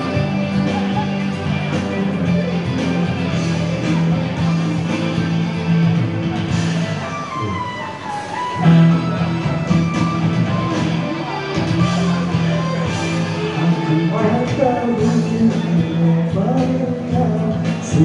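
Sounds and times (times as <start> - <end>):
loud instrumental music: 0.0 - 18.0.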